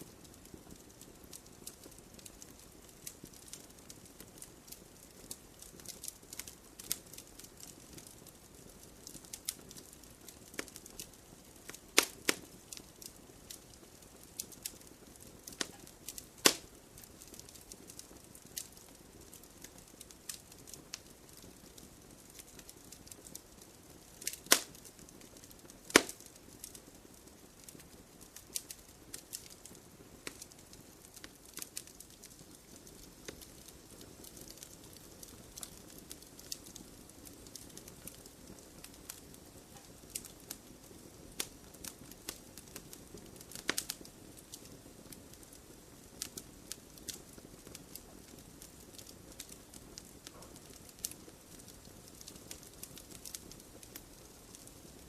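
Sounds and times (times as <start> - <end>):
faint fire hiss: 0.0 - 55.0
wood fire crackling and popping: 0.0 - 55.0.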